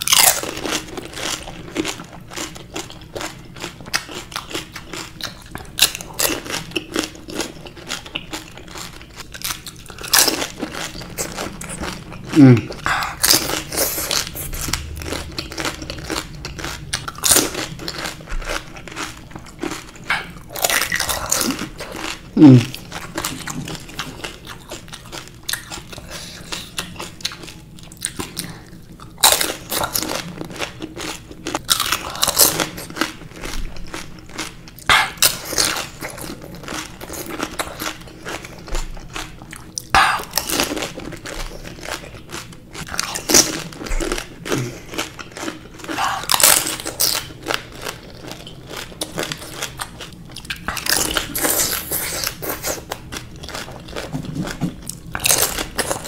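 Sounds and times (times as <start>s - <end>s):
crunching and chewing food: 0.0s - 56.0s.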